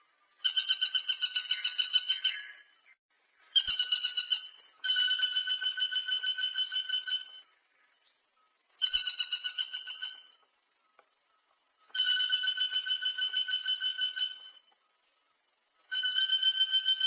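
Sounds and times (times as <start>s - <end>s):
woodpecker rattling trill: 0.4s - 7.9s, 8.8s - 17.0s.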